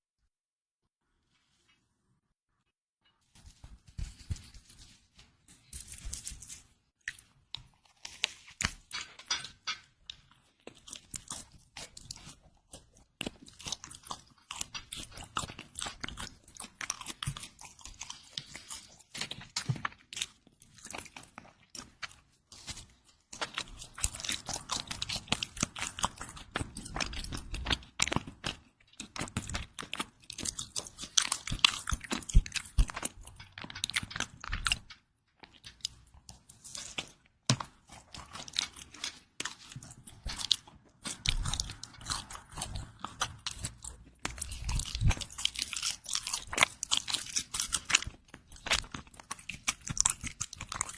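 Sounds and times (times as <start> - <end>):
crusty bread crunching: 5.6 - 50.9.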